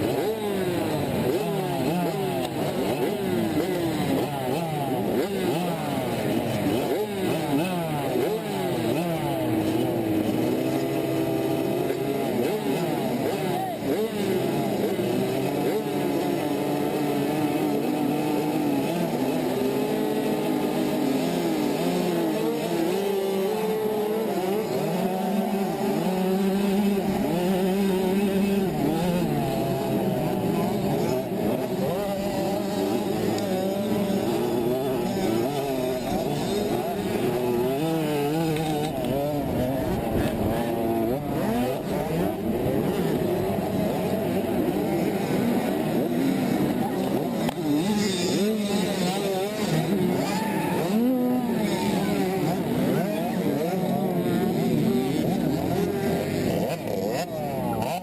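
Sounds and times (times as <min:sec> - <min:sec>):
motocross bike engines racing: 0:00.0 - 0:58.0.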